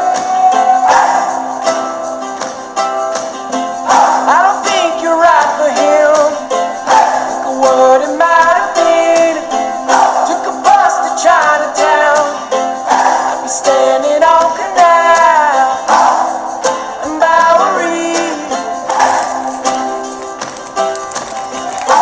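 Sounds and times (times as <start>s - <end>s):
person singing: 0.0s - 2.4s, 3.2s - 20.4s
plucked guitar or ukulele: 0.0s - 22.0s
steady percussion: 0.0s - 22.0s.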